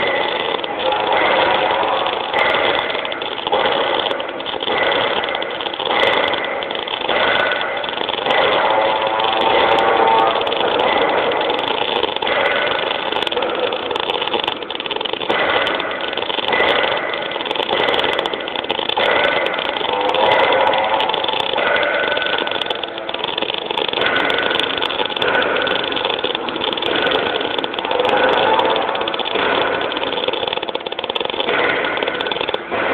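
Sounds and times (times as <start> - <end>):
welding arc crackling: 0.0 - 32.9.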